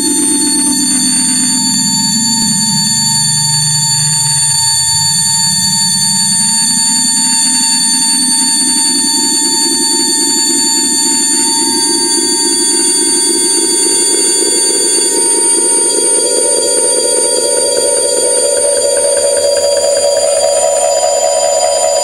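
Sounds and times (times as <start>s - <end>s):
high-pitched electrical tones: 0.0s - 22.0s.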